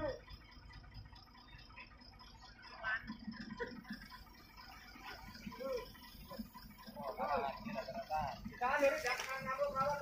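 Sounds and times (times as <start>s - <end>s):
distant voices calling out: 0.0s - 10.0s.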